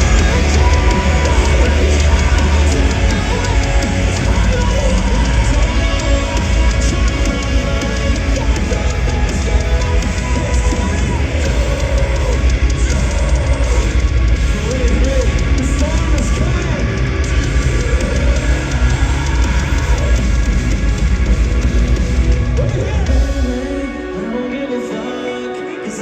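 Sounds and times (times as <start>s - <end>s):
drums: 0.0s - 26.0s
metal band playing live: 0.0s - 26.0s.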